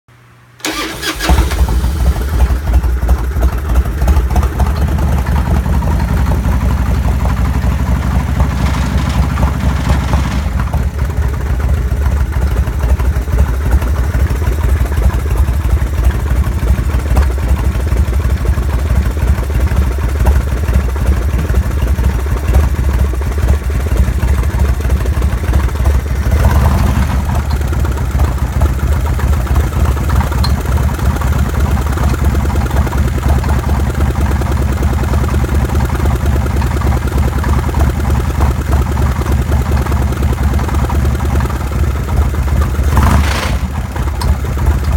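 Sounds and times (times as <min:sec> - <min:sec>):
abnormal mechanical engine noise: 0:00.6 - 0:44.9
motorcycle engine starting and running: 0:00.6 - 0:44.9.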